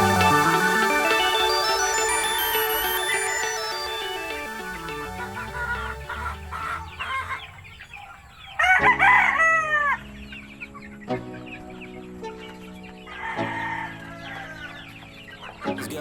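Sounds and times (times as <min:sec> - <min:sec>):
background music: 0:00.0 - 0:07.7, 0:08.6 - 0:16.0.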